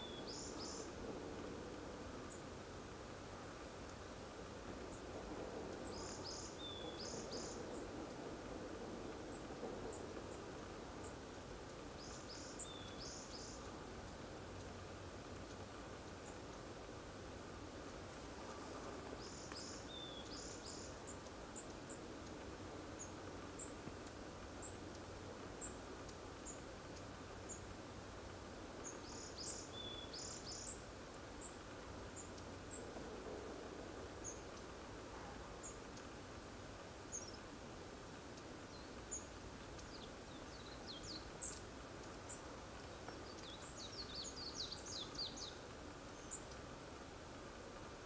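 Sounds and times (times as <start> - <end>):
small birds calling: 0.0 - 1.0, 5.7 - 8.2, 9.3 - 37.6, 38.2 - 46.8
faint background hiss: 0.0 - 48.0.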